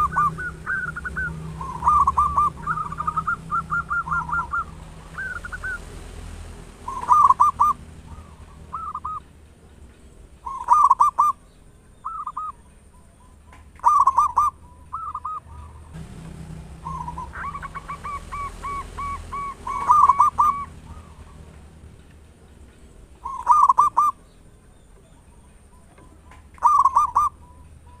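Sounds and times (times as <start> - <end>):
dove cooing: 0.0 - 6.0, 6.7 - 9.3, 10.4 - 22.3, 23.2 - 24.4, 25.0 - 28.0.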